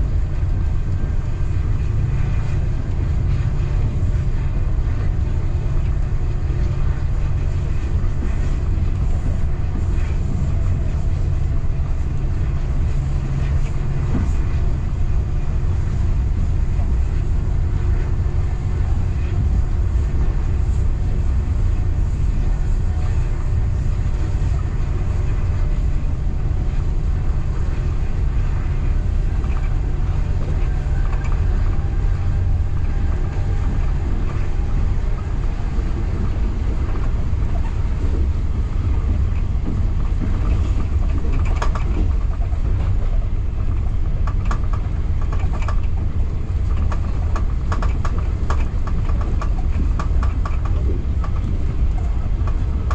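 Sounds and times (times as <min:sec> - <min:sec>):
train rumbling along track: 0:00.0 - 0:52.9.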